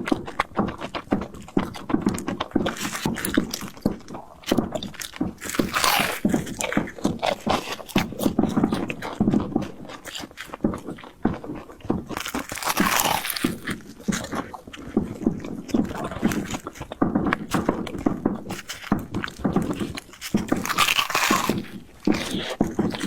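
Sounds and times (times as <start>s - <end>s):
chewing fried bread: 0.0s - 23.0s
wet mouth clicks: 0.0s - 23.0s.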